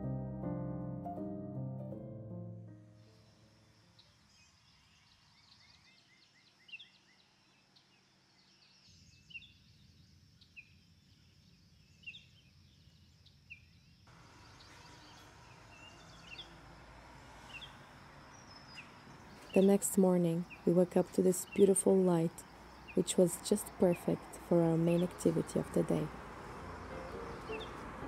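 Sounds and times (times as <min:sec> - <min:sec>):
small birds chirping: 0:03.0 - 0:16.7, 0:17.4 - 0:28.0.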